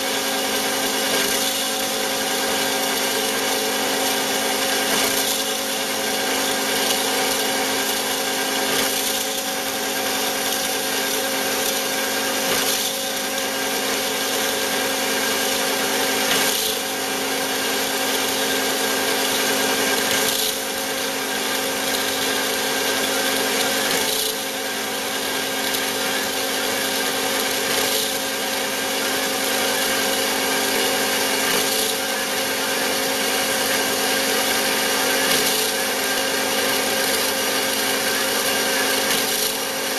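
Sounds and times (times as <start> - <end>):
bandsaw motor hum: 0.0 - 39.9.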